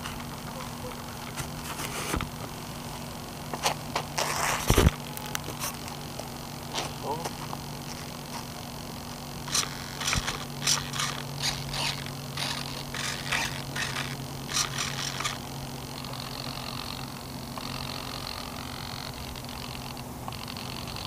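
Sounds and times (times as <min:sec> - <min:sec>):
servos whirring: 0:00.0 - 0:21.0
steady low hum: 0:00.0 - 0:21.0.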